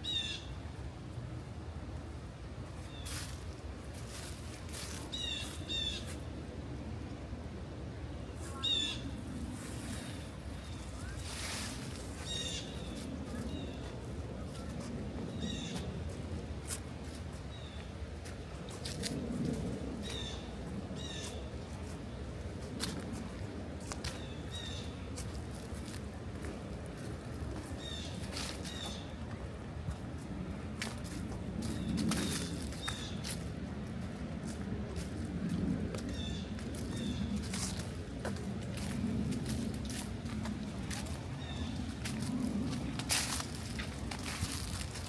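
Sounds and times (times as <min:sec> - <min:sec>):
low background rumble: 0:00.0 - 0:45.0
footsteps on dry leaves: 0:02.7 - 0:06.3, 0:08.4 - 0:45.0.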